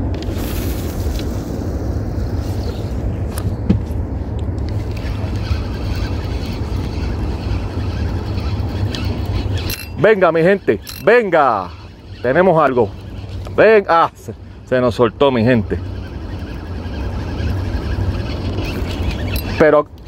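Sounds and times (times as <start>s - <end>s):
wind buffeting microphone: 0.0s - 19.6s.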